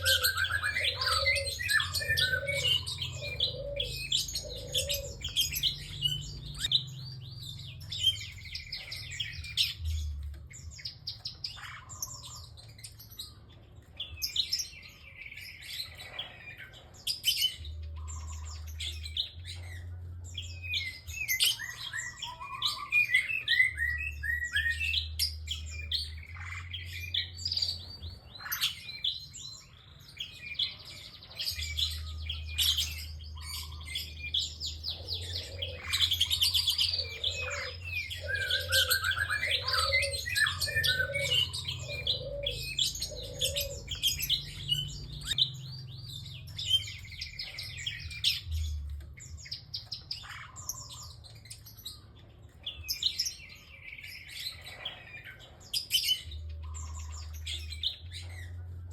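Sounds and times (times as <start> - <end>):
bird sharp high chirps: 0.0 - 19.7, 20.6 - 58.4.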